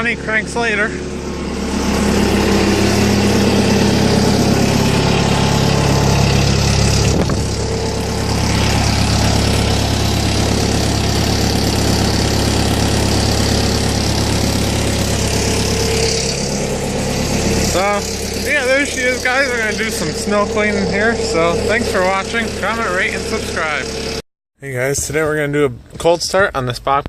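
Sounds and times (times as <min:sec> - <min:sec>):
diesel engine running: 0:00.0 - 0:24.2.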